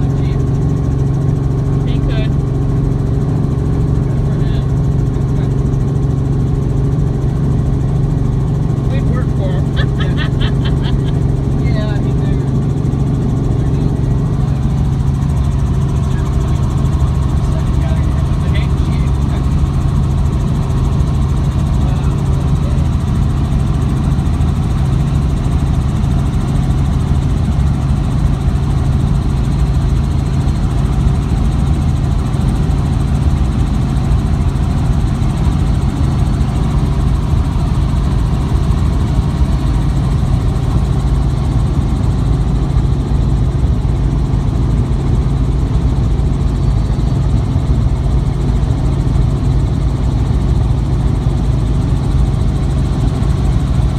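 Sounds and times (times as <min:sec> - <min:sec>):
helicopter engine and rotor droning: 0:00.0 - 0:53.9.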